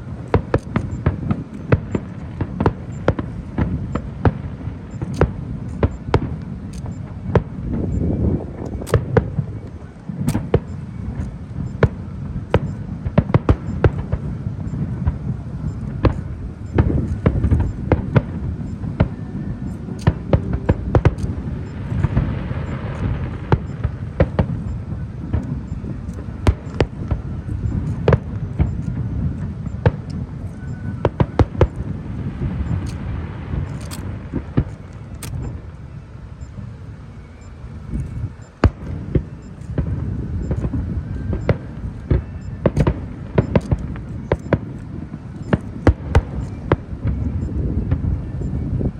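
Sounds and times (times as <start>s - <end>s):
crackling hiss of fireworks: 0.0s - 48.9s
fireworks bangs: 0.0s - 48.9s.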